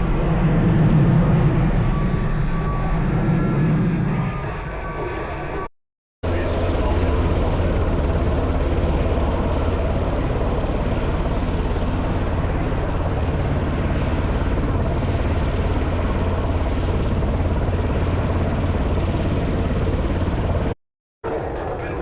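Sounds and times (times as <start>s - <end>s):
helicopter engine and air noise: 0.0s - 22.0s
helicopter rotor throbbing: 0.0s - 22.0s.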